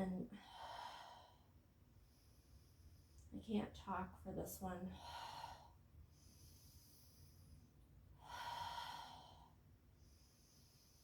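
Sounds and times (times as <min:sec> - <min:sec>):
woman breathing deeply: 0:00.3 - 0:03.2, 0:04.9 - 0:11.0.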